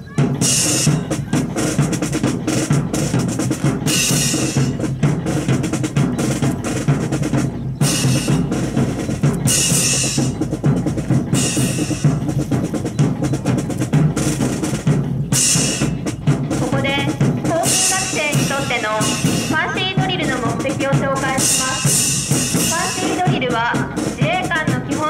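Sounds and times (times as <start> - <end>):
bass drum and snare beat: 0.0 - 25.0.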